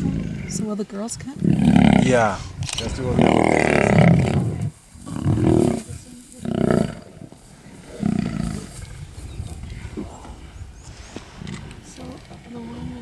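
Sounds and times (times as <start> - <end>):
lions growling and snarling: 0.0 - 13.0.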